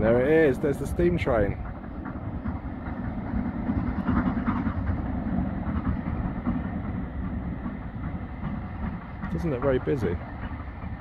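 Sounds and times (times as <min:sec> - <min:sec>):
distant steam train rumble: 0:00.0 - 0:11.0.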